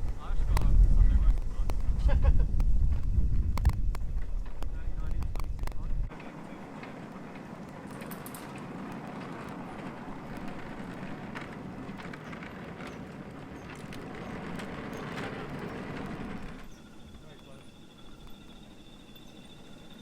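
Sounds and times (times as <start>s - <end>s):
model train rumbling on track: 0.0s - 20.0s
wheels clicking over rail joints: 0.0s - 20.0s.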